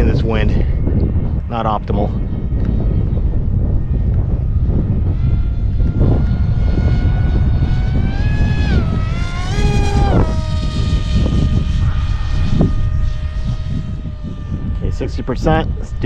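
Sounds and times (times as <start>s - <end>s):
wind rumbling on microphone: 0.0s - 16.0s
model plane electric motor whining: 2.2s - 16.0s.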